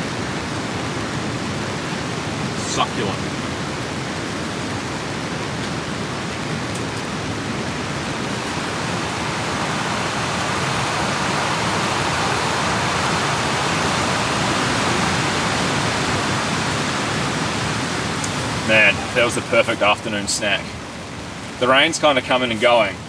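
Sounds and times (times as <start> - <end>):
flooded river rushing: 0.0 - 23.0.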